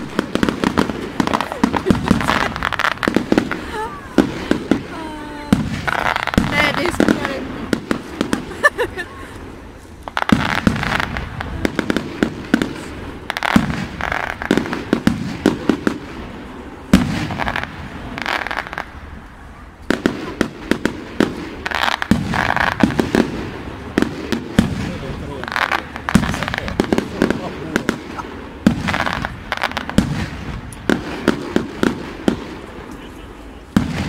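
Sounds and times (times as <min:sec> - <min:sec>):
fireworks bangs: 0:00.0 - 0:34.0
fireworks crackling: 0:00.0 - 0:34.0.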